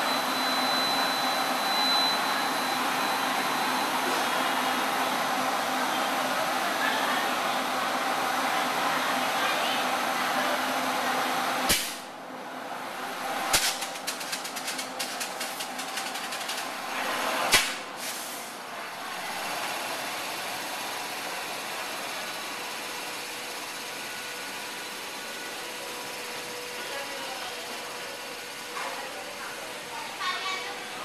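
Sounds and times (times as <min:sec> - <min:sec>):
air compressor humming: 0:00.0 - 0:31.0.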